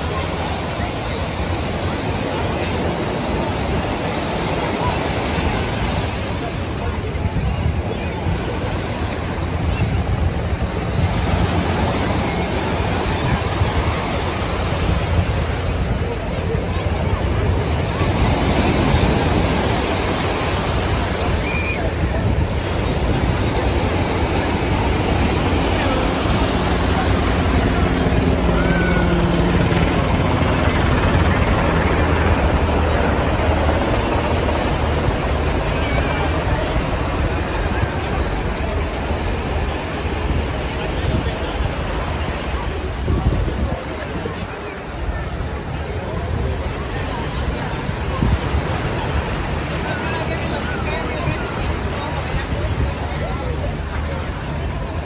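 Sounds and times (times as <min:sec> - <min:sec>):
helicopter flying low overhead: 0:00.0 - 0:55.0
ocean surf breaking: 0:00.0 - 0:55.0
wind on microphone: 0:00.0 - 0:55.0.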